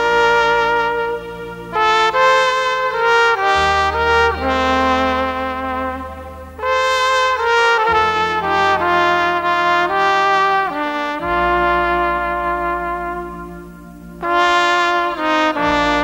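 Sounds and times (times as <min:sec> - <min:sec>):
held low accompaniment: 0:00.0 - 0:16.0
trumpet playing slow melody: 0:00.0 - 0:16.0.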